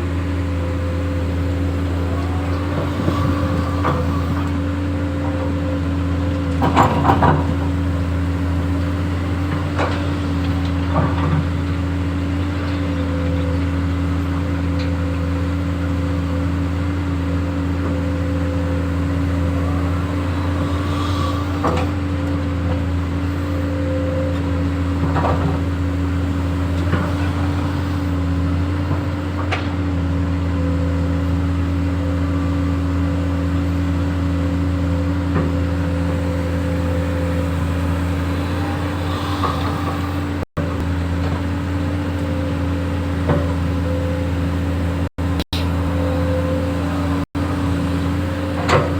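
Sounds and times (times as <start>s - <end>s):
excavator engine running: 0.0s - 48.9s.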